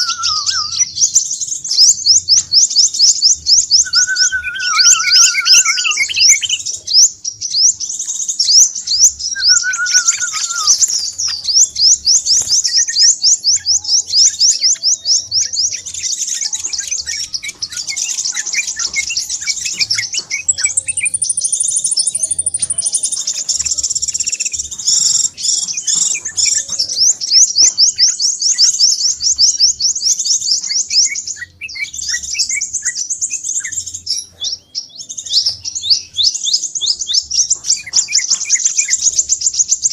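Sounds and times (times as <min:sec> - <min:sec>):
birds chirping rapidly: 0:00.0 - 0:39.9
lower whistled bird phrases: 0:00.0 - 0:39.9.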